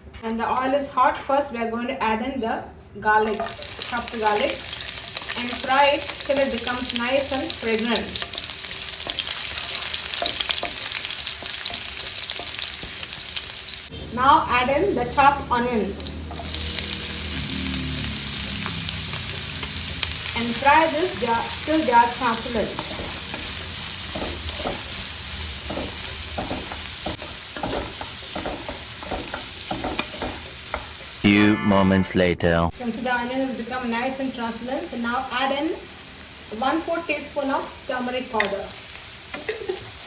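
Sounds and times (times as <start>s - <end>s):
garlic sizzling in hot oil: 3.2s - 31.2s, 32.8s - 40.0s.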